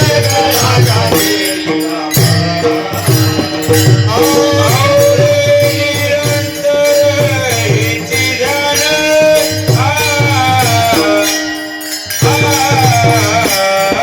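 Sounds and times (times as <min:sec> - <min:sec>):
hand cymbals jingling: 0:00.0 - 0:14.0
hand drum beating steady rhythm: 0:00.0 - 0:14.0
man singing long held notes: 0:00.0 - 0:14.0.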